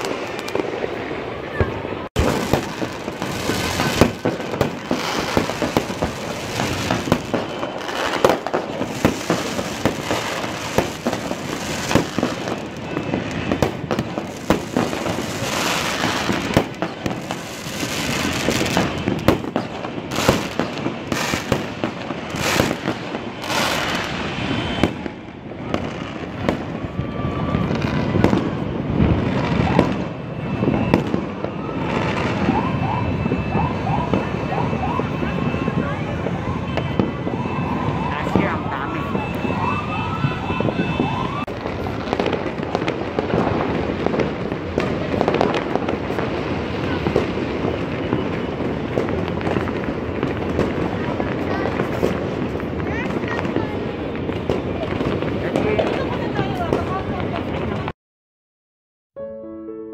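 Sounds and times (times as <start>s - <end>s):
fireworks banging and crackling: 0.0s - 57.9s
sharp firework reports: 0.0s - 57.9s.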